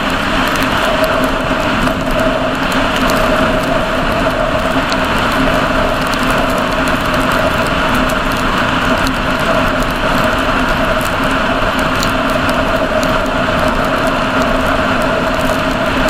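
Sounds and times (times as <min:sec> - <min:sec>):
road and wind noise: 0:00.0 - 0:16.0
vehicle engine drone: 0:00.0 - 0:16.0.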